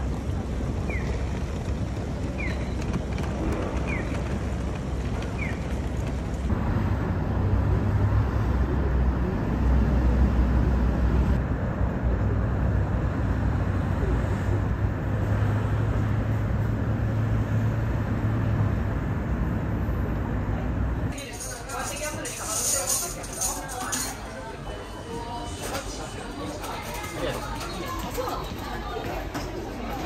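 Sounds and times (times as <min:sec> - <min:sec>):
city street traffic rumble: 0:00.0 - 0:30.0.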